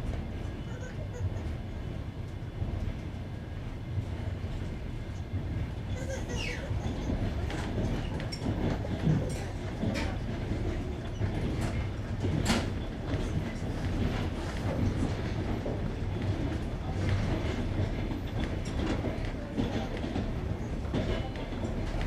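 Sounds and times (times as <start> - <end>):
train wheels rumbling: 0.0 - 22.0
wheels clacking at rail joints: 4.0 - 22.0.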